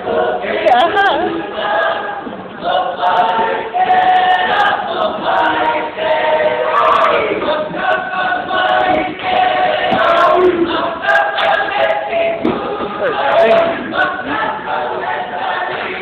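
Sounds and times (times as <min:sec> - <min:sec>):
group singing without instruments: 0:00.0 - 0:16.0.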